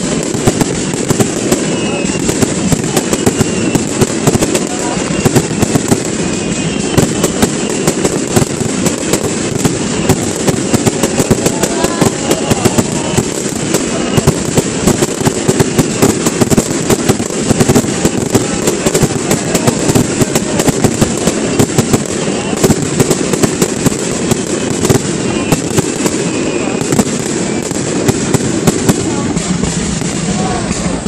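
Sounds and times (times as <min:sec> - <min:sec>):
firework crackling: 0:00.0 - 0:31.0
firework shells bursting: 0:00.0 - 0:31.0.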